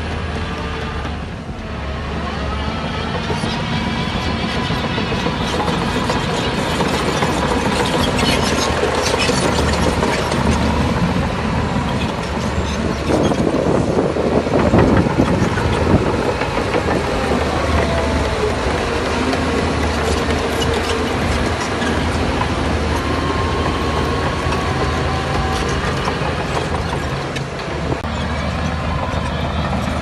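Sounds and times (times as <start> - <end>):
bulldozer diesel engine running: 0.0 - 30.0
steel tracks clanking: 0.0 - 30.0.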